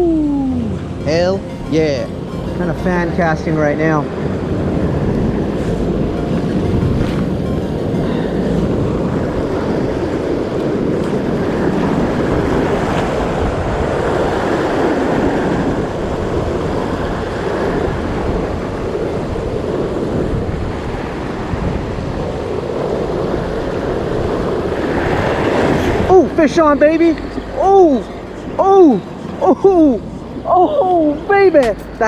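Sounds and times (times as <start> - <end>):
wind buffeting microphone: 0.0 - 32.0
ocean surf breaking on beach: 0.1 - 32.0.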